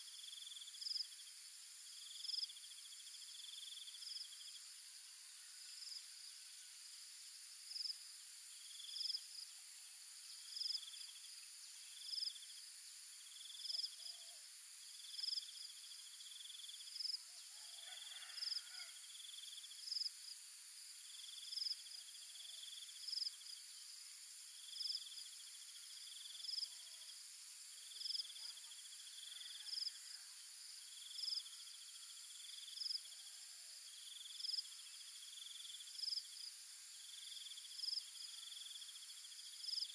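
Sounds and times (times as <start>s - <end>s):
buzzy insect trills: 0.0s - 39.9s
high-pitched insect hum: 0.0s - 39.9s
insects chirping: 0.0s - 39.9s.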